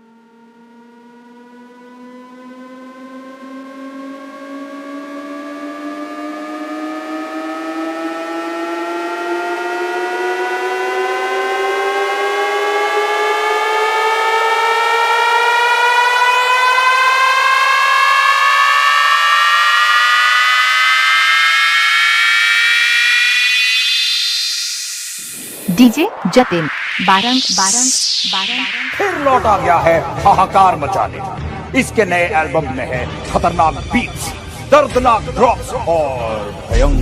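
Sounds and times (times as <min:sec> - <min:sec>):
synth tones gliding upward: 0:00.0 - 0:32.1.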